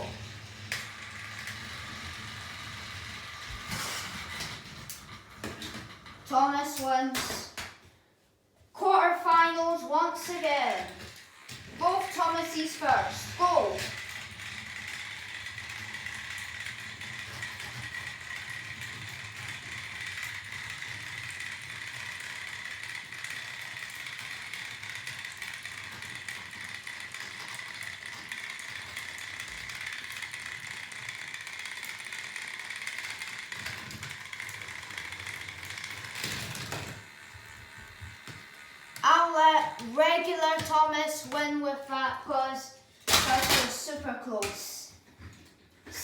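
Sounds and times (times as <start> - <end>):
toy train motors whining: 0.0 - 7.6, 8.8 - 46.0.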